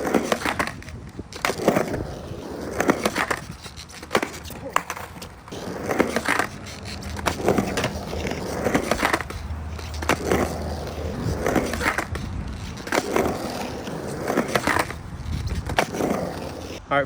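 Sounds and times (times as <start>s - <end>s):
skateboard clacking and grinding: 0.0s - 16.8s
skateboard rolling on concrete: 0.0s - 17.0s.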